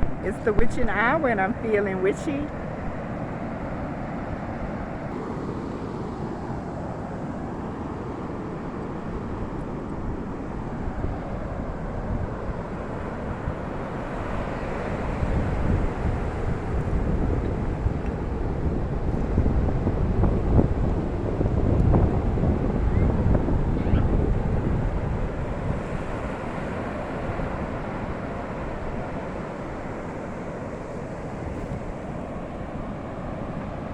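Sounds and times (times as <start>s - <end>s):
wind buffeting microphone: 0.0s - 5.3s, 6.1s - 33.9s.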